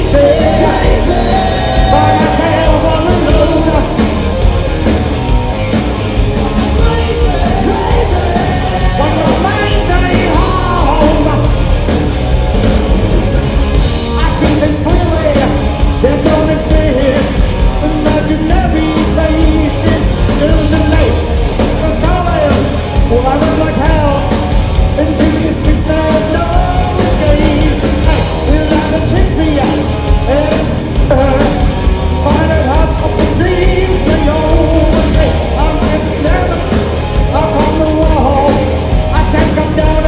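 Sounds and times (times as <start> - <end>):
person singing: 0.0 - 4.1, 6.4 - 11.6, 14.1 - 40.0
live rock band playing: 0.0 - 40.0.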